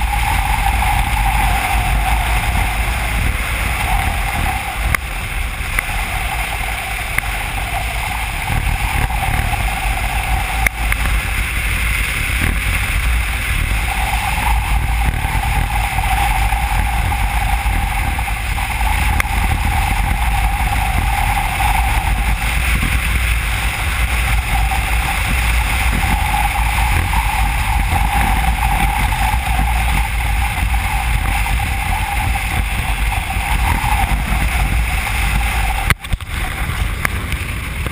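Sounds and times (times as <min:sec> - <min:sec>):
motorcycle engine: 0:00.0 - 0:37.9
wind rush on microphone: 0:00.0 - 0:37.9.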